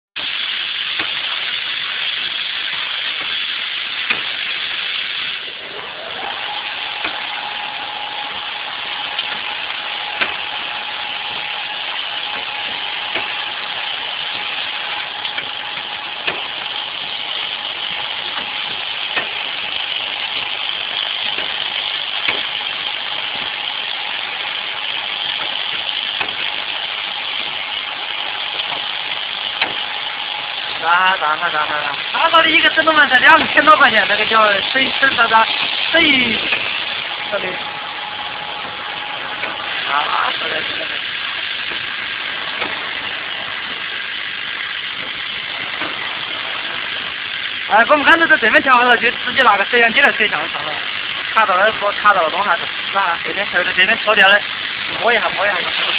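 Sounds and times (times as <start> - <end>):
printer mechanical hiss and hum: 0.2 - 55.9
steady machine whine: 0.2 - 55.9.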